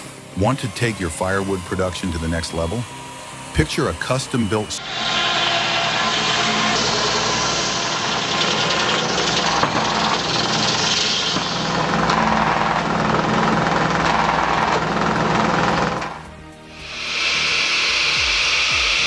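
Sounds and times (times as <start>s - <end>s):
sawmill engine running: 0.0s - 19.0s
circular saw blade sawing log: 0.4s - 19.0s.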